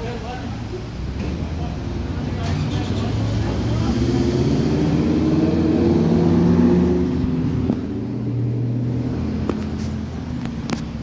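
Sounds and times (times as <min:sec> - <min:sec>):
car engine humming: 0:00.4 - 0:11.0.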